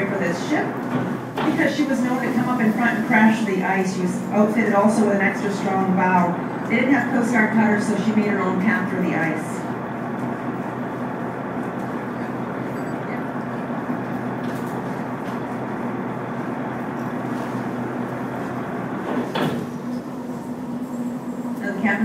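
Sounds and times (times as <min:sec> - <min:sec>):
boat engine drone: 0:00.0 - 0:22.0.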